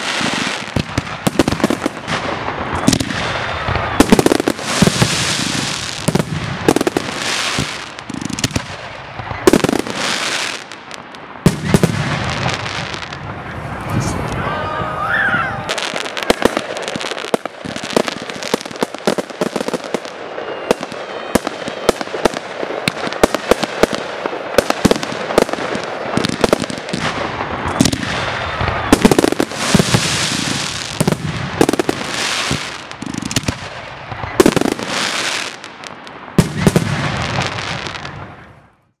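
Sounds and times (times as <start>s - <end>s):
hissing crackling fireworks: 0.0s - 14.9s, 15.5s - 39.0s
fireworks bangs: 0.0s - 38.9s.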